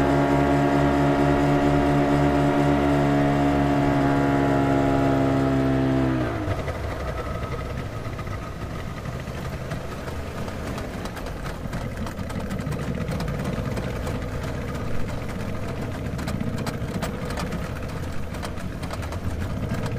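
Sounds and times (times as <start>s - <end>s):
motorboat engine droning: 0.0s - 19.9s.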